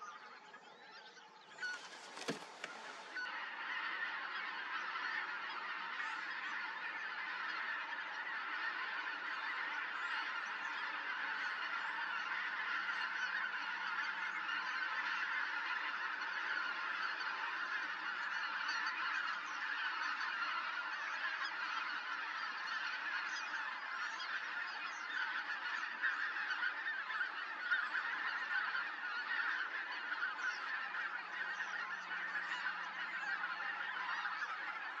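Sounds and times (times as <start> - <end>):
flock of birds calling: 0.0 - 35.0.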